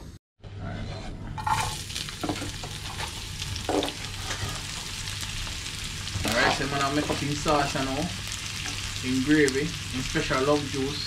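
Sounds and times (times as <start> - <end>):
vegetables sizzling in a frying pan: 1.4 - 11.0.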